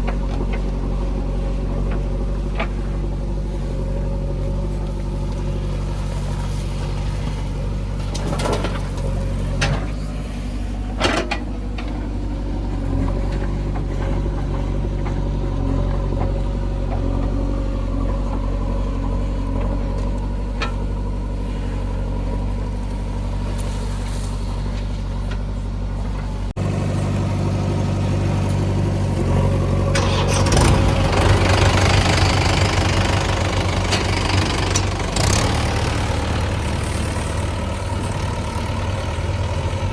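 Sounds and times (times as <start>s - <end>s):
diesel engine running: 0.0s - 39.9s
rough loud engine: 0.0s - 39.9s.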